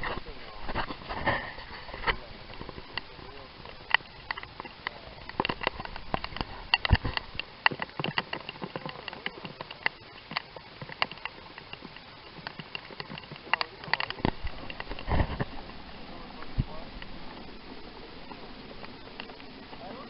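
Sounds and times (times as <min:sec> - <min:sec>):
raindrops tapping hard surface: 0:00.0 - 0:20.0.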